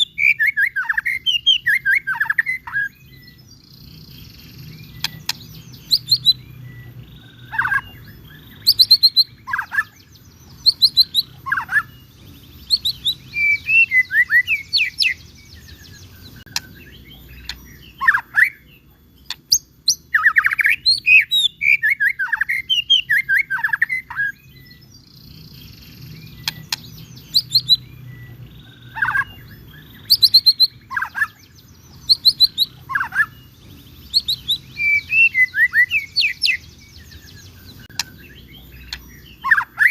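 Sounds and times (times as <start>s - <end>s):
songbird chirping and whistling: 0.0s - 39.9s.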